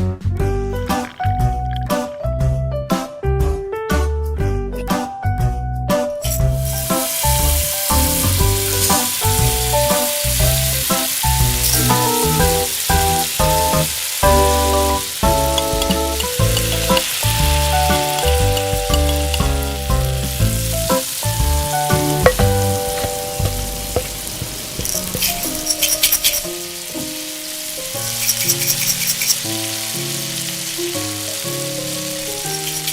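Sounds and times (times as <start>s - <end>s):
background music: 0.0s - 32.9s
food sizzling as it fries: 0.9s - 2.5s, 6.2s - 32.9s.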